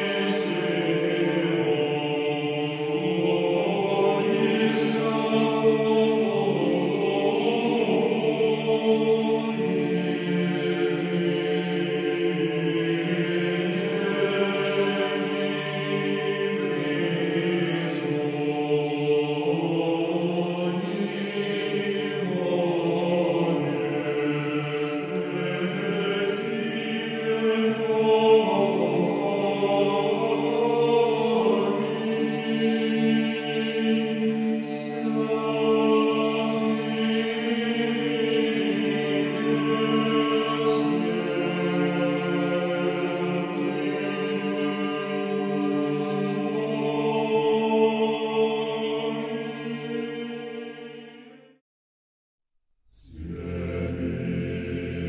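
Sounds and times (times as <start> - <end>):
choir chanting: 0.0 - 51.6, 53.0 - 55.0.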